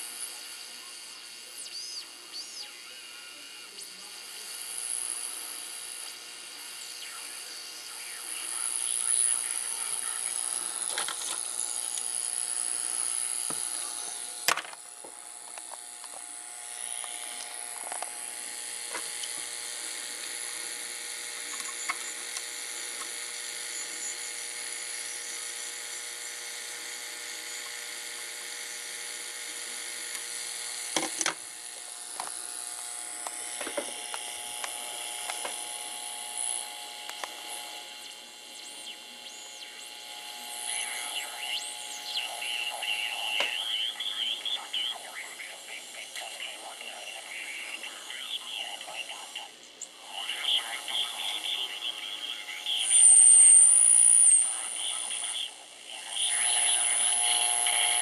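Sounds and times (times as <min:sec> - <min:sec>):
radio static hiss: 0:00.0 - 0:58.0.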